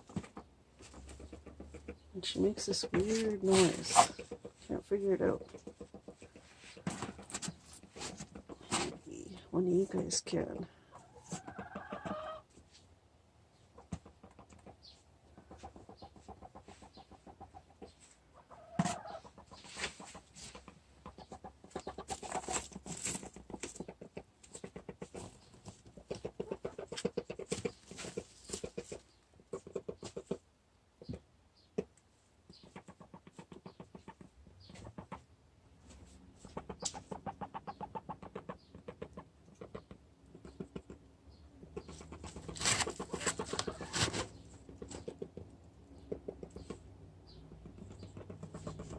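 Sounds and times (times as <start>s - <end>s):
hen clucking rapidly: 0.0s - 12.5s, 13.5s - 35.4s, 36.3s - 48.9s.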